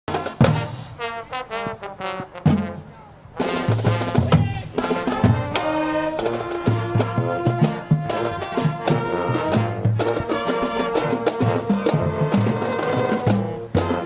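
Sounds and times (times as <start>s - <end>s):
brass band with drums: 0.1s - 14.0s.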